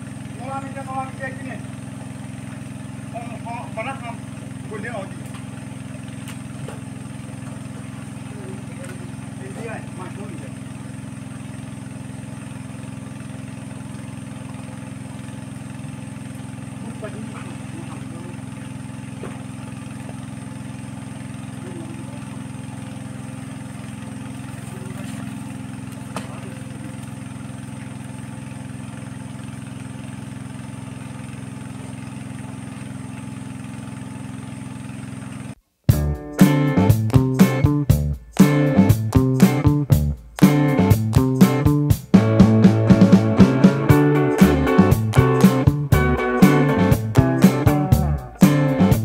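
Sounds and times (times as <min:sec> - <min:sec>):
small engine idling: 0:00.0 - 0:49.0.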